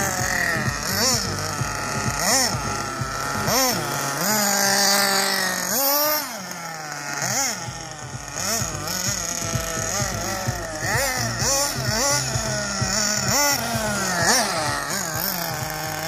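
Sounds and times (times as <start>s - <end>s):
rc buggy motor revving: 0.0s - 16.0s.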